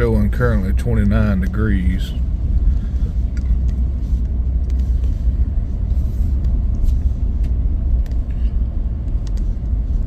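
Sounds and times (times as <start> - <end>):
car interior rumble: 0.0 - 10.0.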